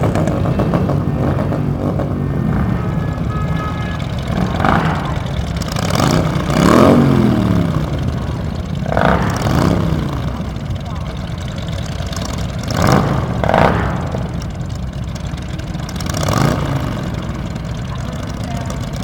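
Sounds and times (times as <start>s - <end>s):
motorcycles revving: 0.0s - 19.0s.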